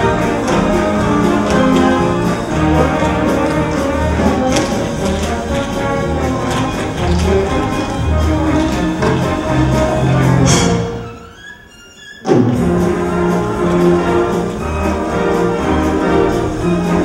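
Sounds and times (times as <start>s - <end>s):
orchestra dance music with brass: 0.0s - 17.0s.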